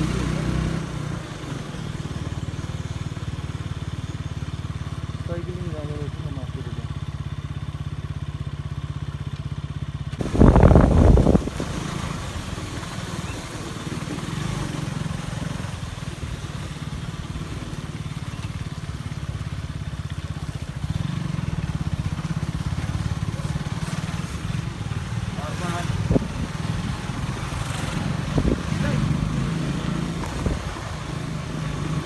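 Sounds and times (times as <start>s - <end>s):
wind and road noise: 0.0s - 6.7s, 8.8s - 32.0s
motorcycle engine running: 0.0s - 32.0s.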